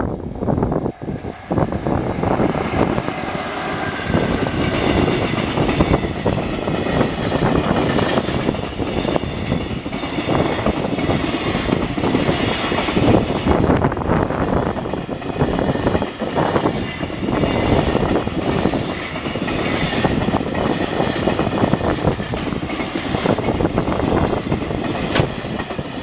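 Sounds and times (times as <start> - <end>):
train wheels clacking on rails: 1.0 - 26.0.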